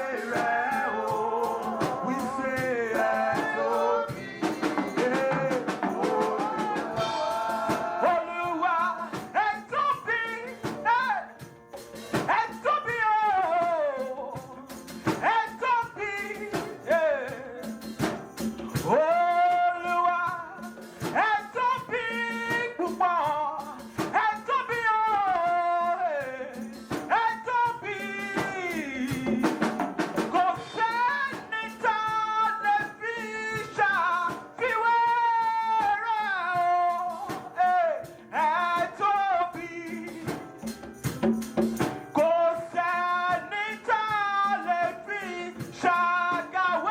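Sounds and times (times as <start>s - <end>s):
person singing worship song: 0.0s - 11.4s, 12.1s - 18.0s, 18.7s - 40.9s, 42.2s - 46.9s
instrumental accompaniment: 0.0s - 46.9s.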